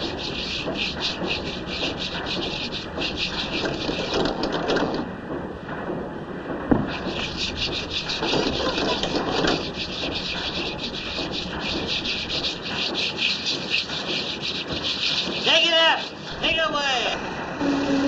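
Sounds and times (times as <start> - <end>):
rapid brush scrubbing: 0.0 - 5.0, 6.8 - 17.0.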